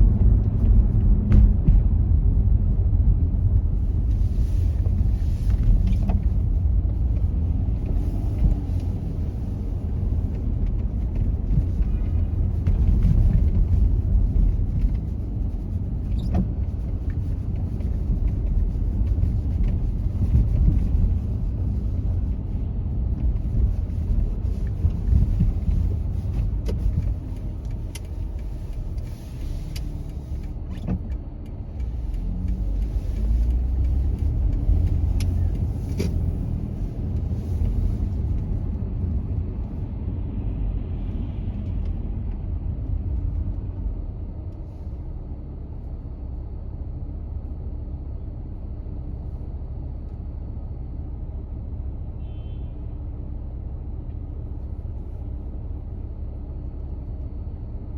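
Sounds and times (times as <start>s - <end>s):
car road and engine rumble: 0.0s - 57.9s.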